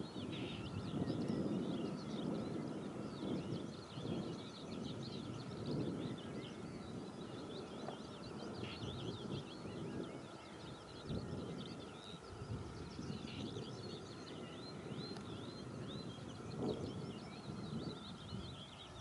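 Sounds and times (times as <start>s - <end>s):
small birds chirping and singing: 0.0s - 19.0s.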